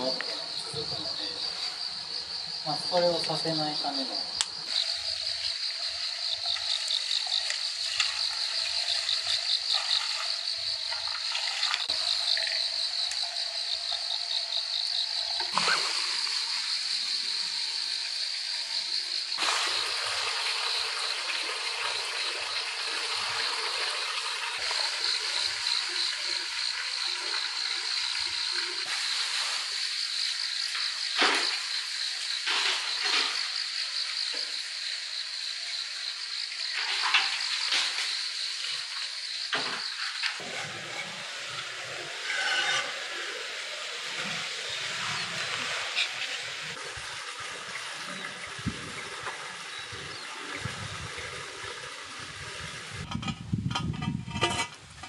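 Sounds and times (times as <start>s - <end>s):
frogs croaking: 0.0s - 53.4s
insects trilling: 0.0s - 55.0s.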